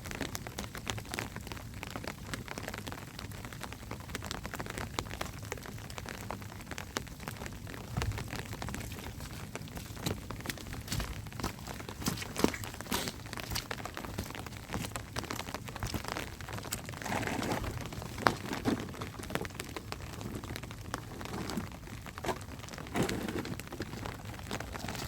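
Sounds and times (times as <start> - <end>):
rain falling on a surface: 0.0 - 25.0.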